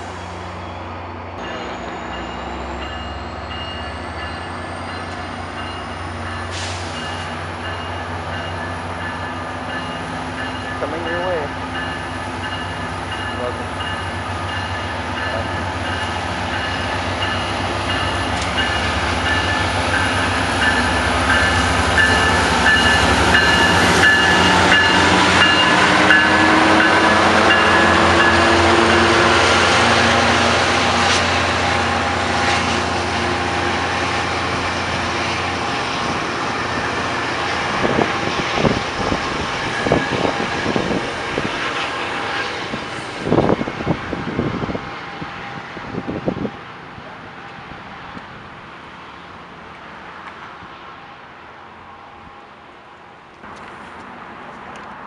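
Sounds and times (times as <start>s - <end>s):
train passing: 0.0s - 55.0s.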